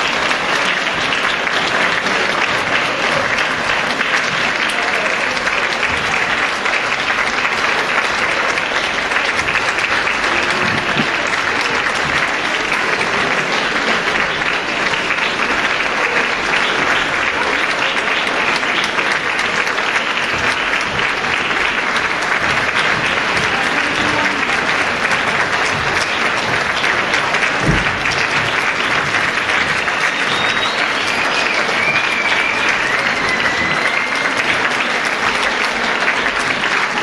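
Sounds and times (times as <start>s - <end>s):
audience applauding: 0.0s - 37.0s.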